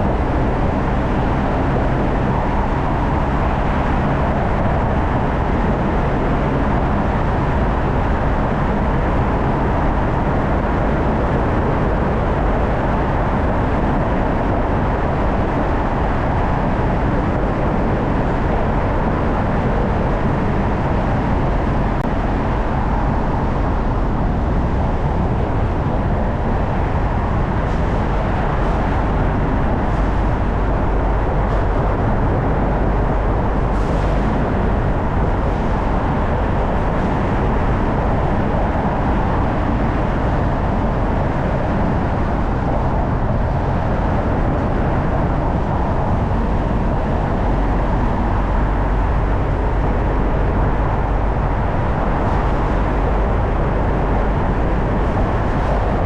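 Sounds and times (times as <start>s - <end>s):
car road and tyre noise: 0.0s - 56.0s.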